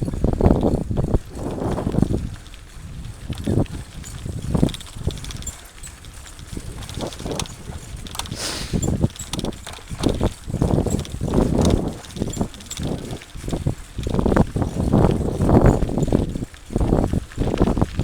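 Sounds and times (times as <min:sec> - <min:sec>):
bike knocks and rattles: 0:00.0 - 0:18.0
wind buffeting microphone: 0:00.0 - 0:18.0.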